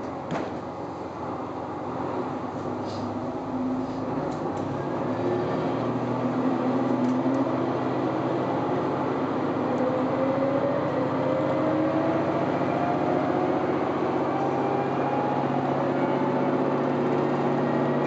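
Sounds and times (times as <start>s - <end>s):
diesel railcar engine accelerating: 0.0s - 18.0s.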